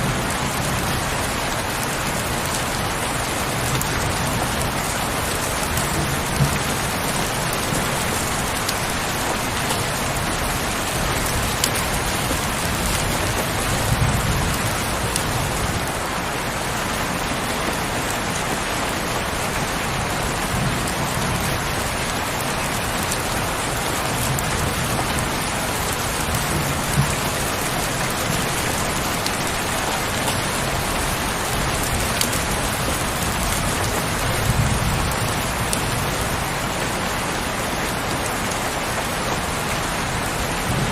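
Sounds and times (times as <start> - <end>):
raindrops ticking: 0.0 - 16.1, 17.6 - 36.8
heavy rain falling: 0.0 - 40.9.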